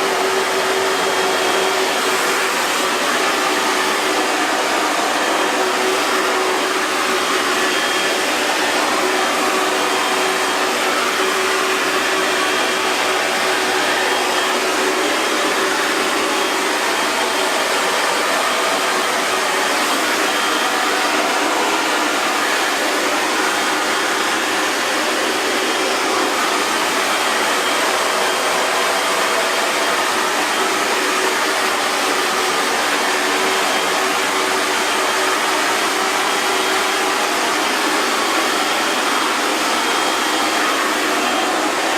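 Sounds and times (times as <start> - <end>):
hair dryer running: 0.0 - 41.9.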